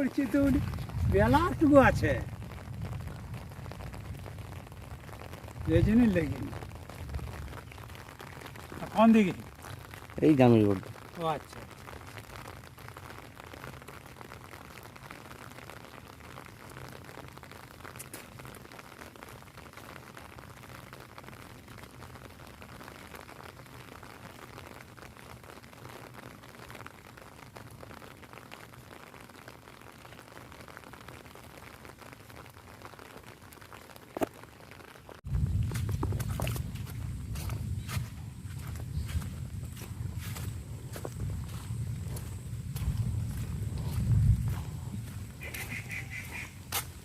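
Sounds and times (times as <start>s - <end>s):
rain on an umbrella: 0.0s - 47.0s.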